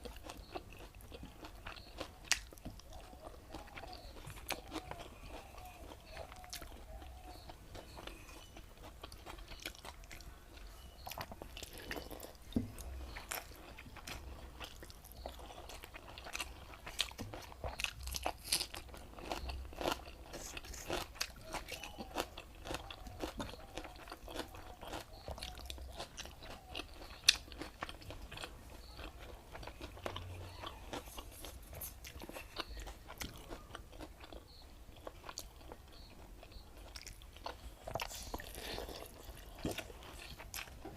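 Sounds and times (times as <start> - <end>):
chewing with wet mouth clicks: 0.0 - 40.9
food crunching: 0.0 - 40.9.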